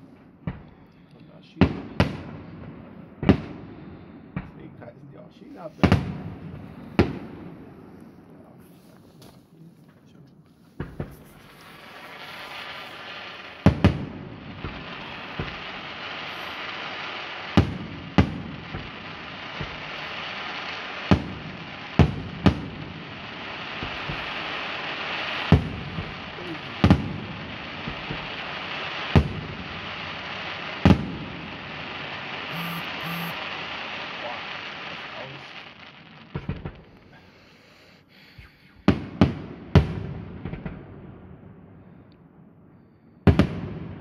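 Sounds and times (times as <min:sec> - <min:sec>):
firework bangs: 0:00.0 - 0:04.7, 0:05.3 - 0:09.6, 0:10.5 - 0:41.9, 0:43.2 - 0:44.0
fireworks crackling hiss: 0:00.0 - 0:41.0.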